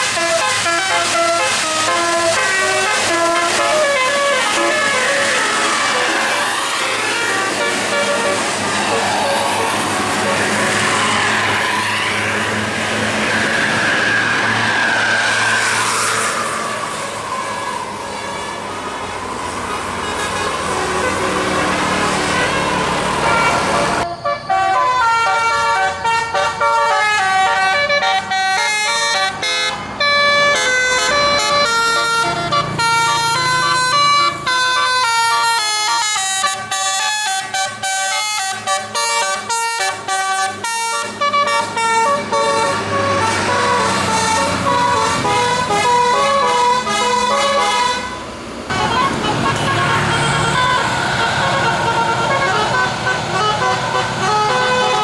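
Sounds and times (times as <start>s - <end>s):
bus musical air horn tune: 0.0s - 12.5s, 18.0s - 19.1s, 19.7s - 55.0s
vehicle noise: 0.0s - 55.0s.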